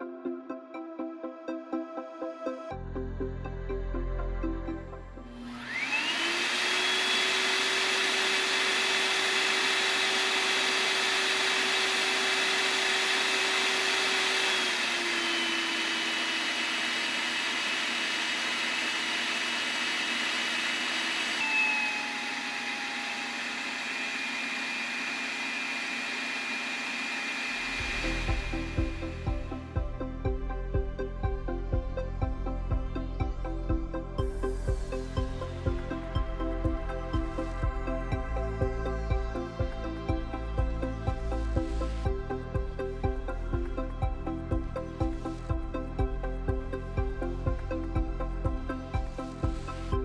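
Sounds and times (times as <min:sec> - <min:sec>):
electric hand dryer motor whine: 0:05.2 - 0:31.6, 0:33.2 - 0:50.0.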